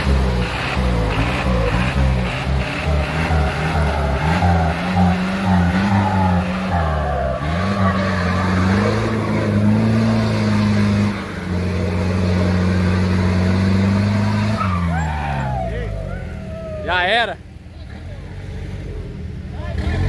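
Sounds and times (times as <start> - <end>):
engine revving: 0.0 - 16.1, 18.6 - 20.0.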